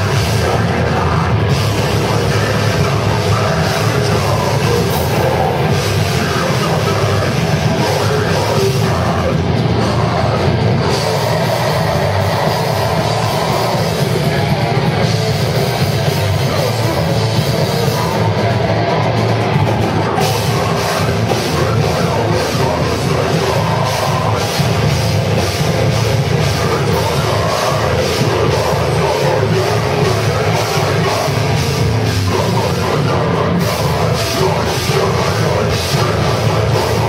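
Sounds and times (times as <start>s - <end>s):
heavy metal band playing live: 0.0s - 37.0s.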